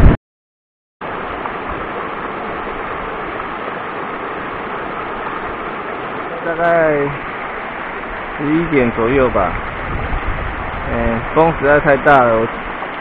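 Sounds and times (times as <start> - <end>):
stream rushing over rocks: 1.0 - 13.0.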